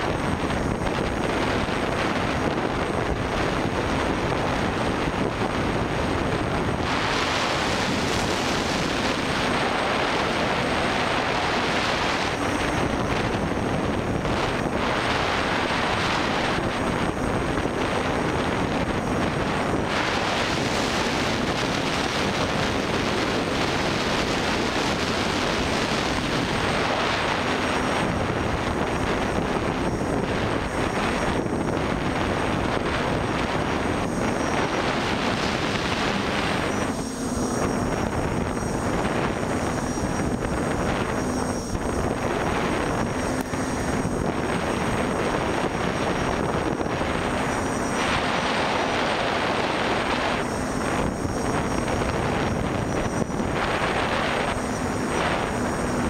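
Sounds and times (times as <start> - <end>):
wind noise: 0.0 - 56.0.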